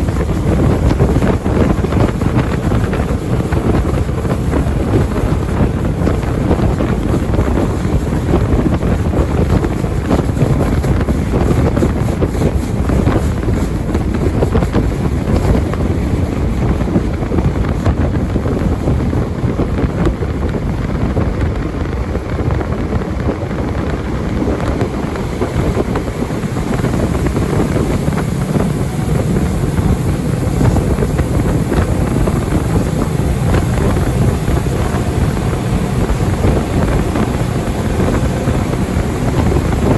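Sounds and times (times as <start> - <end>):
jet boat engine: 0.0 - 39.9
rushing water: 0.0 - 39.9
wind noise on microphone: 0.0 - 39.9.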